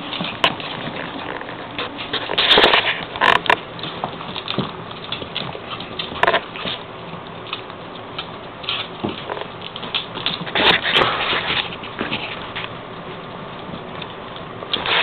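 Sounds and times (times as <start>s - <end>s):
animals play-fighting: 0.0s - 15.0s.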